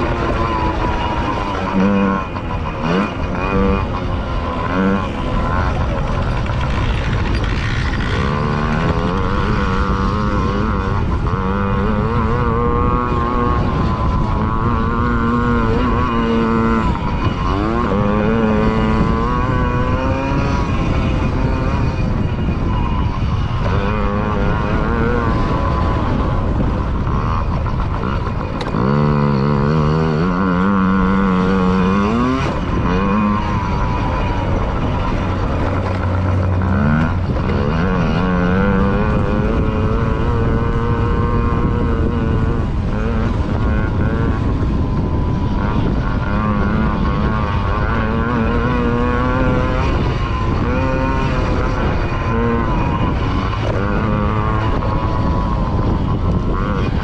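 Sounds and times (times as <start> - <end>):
steady rushing noise: 0.0 - 57.0
two-stroke engine revving: 0.0 - 57.0.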